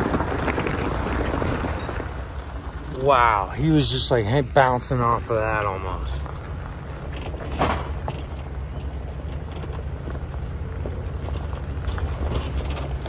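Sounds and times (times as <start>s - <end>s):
gravel crunching under tyres: 0.0s - 13.0s
truck engine and tyre rumble: 0.0s - 13.0s.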